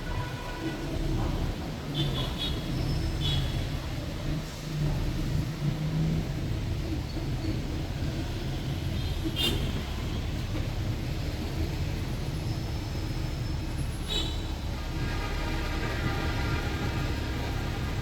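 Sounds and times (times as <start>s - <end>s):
bus engine rumble: 0.0s - 18.0s
road traffic: 0.0s - 18.0s.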